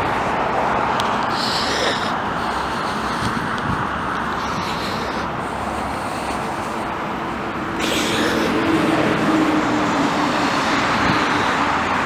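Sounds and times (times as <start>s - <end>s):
road traffic passing cars: 0.0s - 12.0s.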